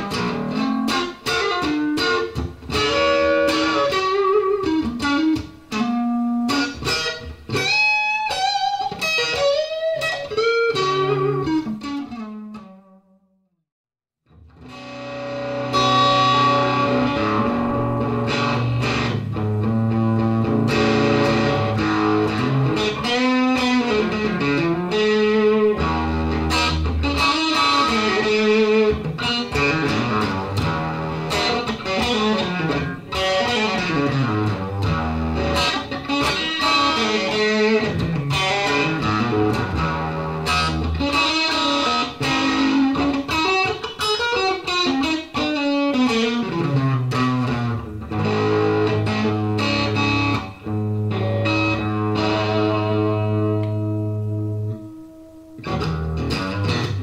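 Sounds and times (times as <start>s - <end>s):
electric guitar through amp: 0.0s - 13.0s, 14.3s - 57.0s.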